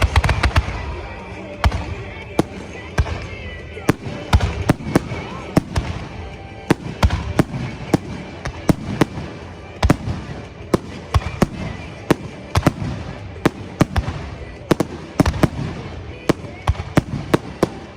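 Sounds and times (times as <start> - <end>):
fireworks bursting with bangs: 0.0 - 17.9.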